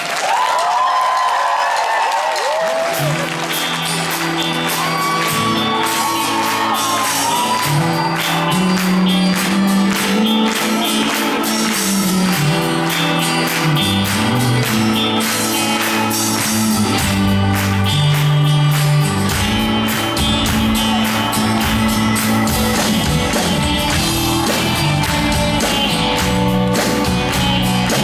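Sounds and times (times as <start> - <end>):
audience cheering and whistling: 0.0 - 28.0
live rock band playing: 2.8 - 28.0.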